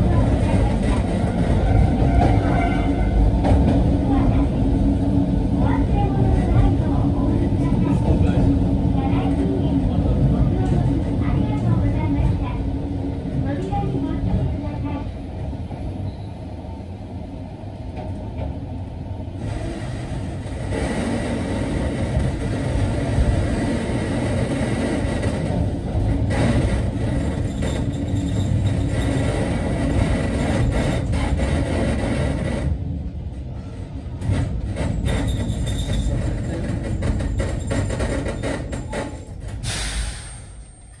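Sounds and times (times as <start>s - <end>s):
train wheels rumbling: 0.0s - 41.0s.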